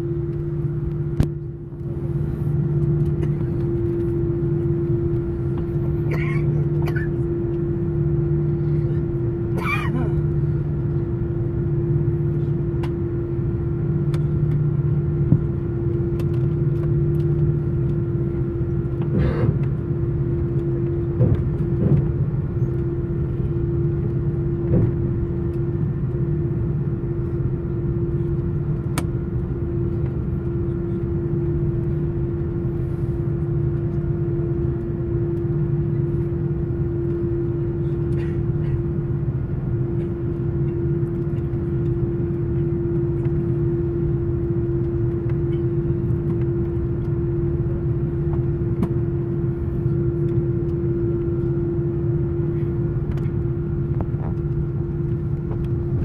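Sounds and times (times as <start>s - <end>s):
aircraft engines droning: 0.0s - 56.0s
constant hum: 0.0s - 56.0s.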